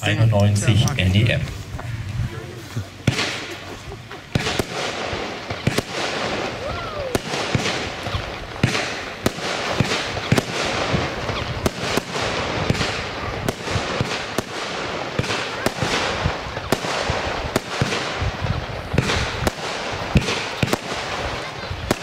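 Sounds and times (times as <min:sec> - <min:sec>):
continuous hiss: 0:00.0 - 0:22.0
firework battery bangs: 0:03.0 - 0:22.0.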